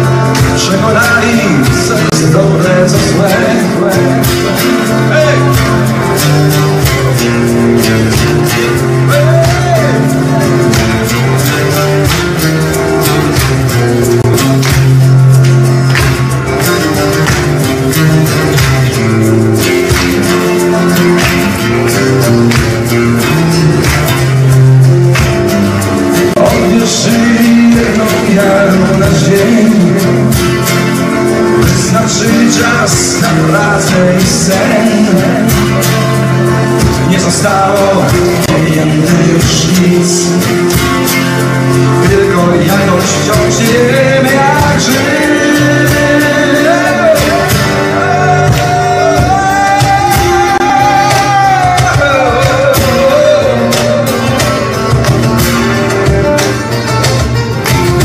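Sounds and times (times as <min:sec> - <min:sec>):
acoustic guitars strumming: 0:00.0 - 0:58.0
cajon beat: 0:00.0 - 0:58.0.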